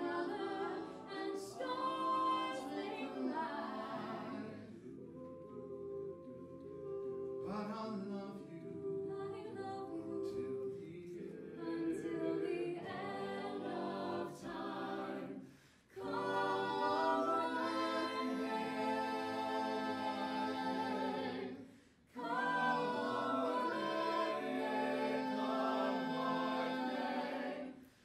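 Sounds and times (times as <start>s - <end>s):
mixed voices singing a cappella: 0.0s - 28.0s.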